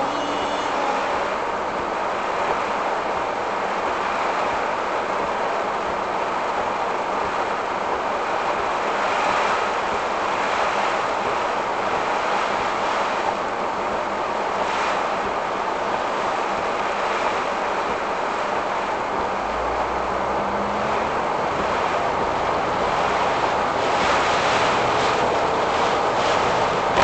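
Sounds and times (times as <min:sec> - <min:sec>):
wind and rain buffeting car: 0:00.0 - 0:27.0.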